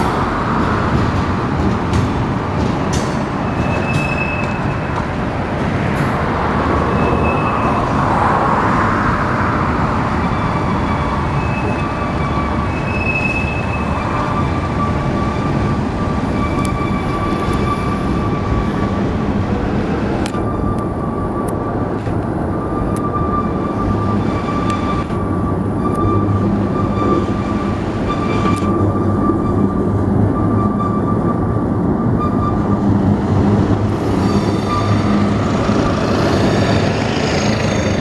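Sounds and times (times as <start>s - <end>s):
freight train rumbling past: 0.0s - 38.0s
wheels squealing: 3.4s - 5.0s, 6.6s - 38.0s.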